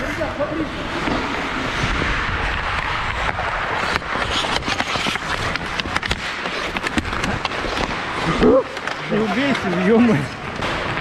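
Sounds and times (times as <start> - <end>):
hockey sticks clacking: 0.0 - 11.0
skates scraping across ice: 0.0 - 11.0.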